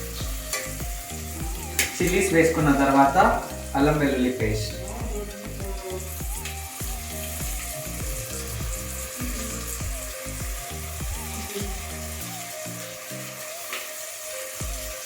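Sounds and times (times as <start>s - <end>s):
background music with steady beat: 0.0s - 15.0s
oil sizzling in a pan: 0.0s - 15.0s.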